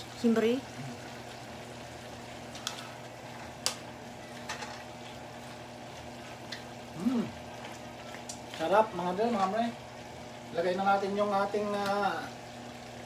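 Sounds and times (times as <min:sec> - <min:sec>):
faint sizzling in a pan: 0:00.0 - 0:13.0.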